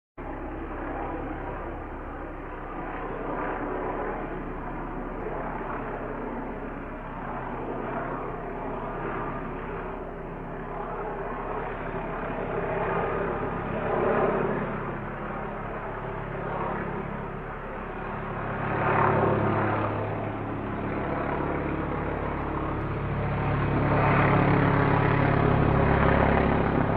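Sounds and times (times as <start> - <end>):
helicopter hovering: 0.2 - 26.9.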